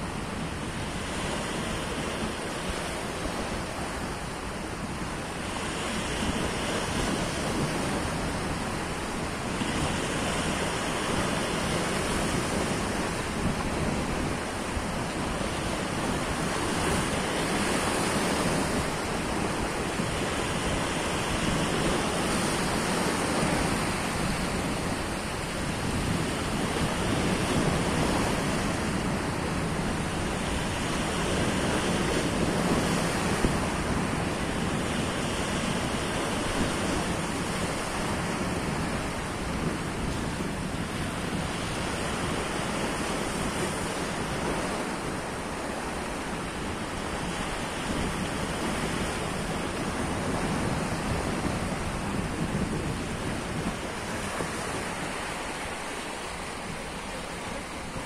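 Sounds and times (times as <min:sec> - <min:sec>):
sea waves breaking on rocks: 0:00.7 - 0:58.0.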